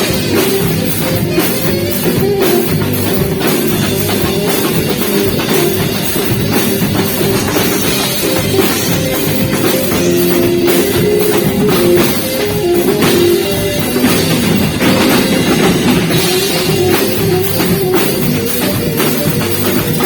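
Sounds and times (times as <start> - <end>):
drum kit beat: 0.0 - 20.0
guitar: 0.0 - 20.0
saxophone melody: 0.0 - 20.0.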